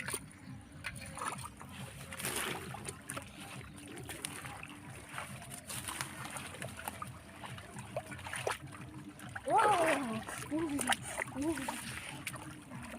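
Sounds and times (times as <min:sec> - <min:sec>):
water splashing and sloshing: 0:00.0 - 0:12.9.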